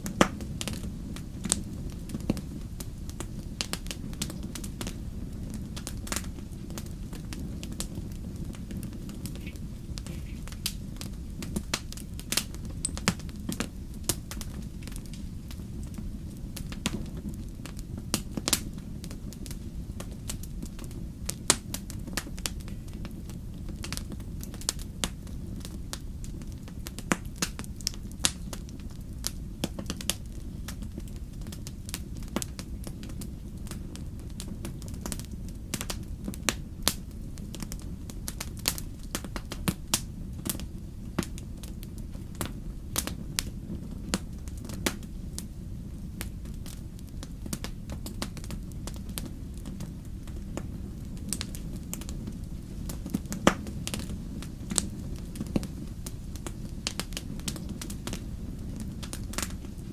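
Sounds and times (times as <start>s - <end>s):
burning wood crackling and popping: 0.0s - 59.9s
campfire flame rush: 0.0s - 59.9s.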